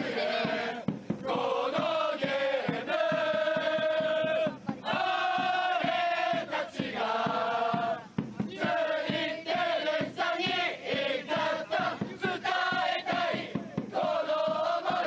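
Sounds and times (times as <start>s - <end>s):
football supporters chanting: 0.0s - 15.0s
steady beat: 0.0s - 15.0s.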